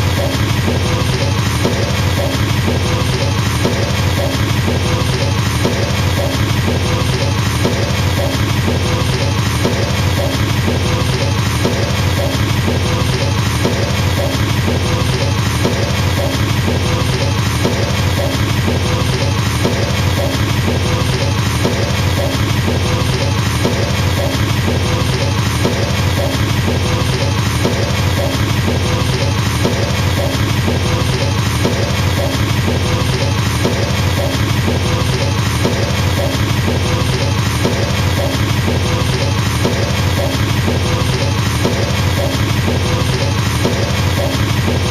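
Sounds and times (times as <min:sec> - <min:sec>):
fast double bass drum roll: 0:00.0 - 0:44.9.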